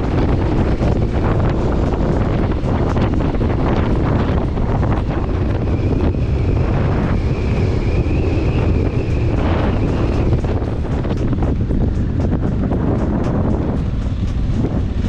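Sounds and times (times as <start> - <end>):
motorcycle engine rumble: 0.0 - 15.0
steady high whine: 0.0 - 15.0
wind buffeting microphone: 0.0 - 15.0.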